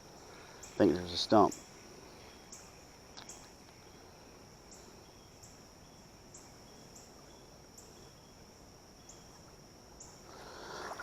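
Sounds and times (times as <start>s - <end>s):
faint insect trill: 0.0s - 11.0s.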